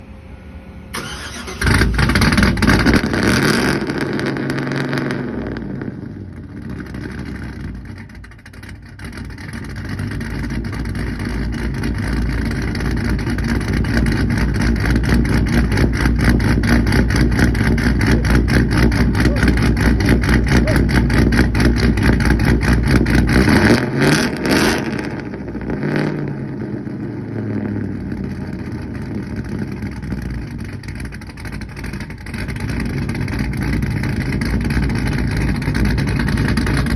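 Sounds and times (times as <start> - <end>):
pickup truck engine revving: 0.9 - 36.9.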